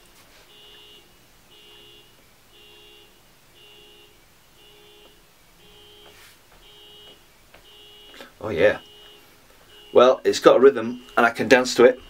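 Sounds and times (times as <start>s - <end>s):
car alarm beeping: 0.5s - 12.0s.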